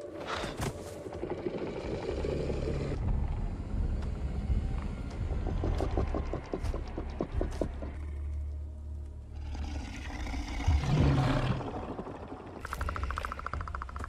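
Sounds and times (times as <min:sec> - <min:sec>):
low rumbling drone: 0:01.0 - 0:14.0.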